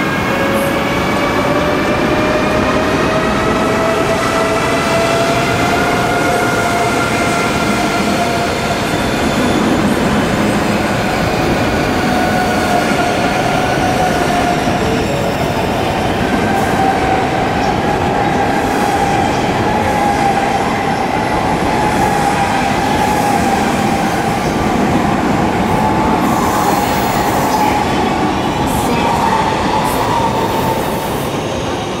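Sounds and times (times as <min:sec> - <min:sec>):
train running noise: 0:00.0 - 0:32.0.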